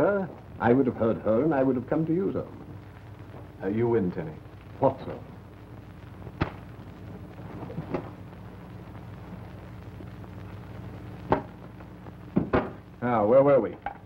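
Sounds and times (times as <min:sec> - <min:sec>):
film soundtrack hum and hiss: 0:00.0 - 0:14.0.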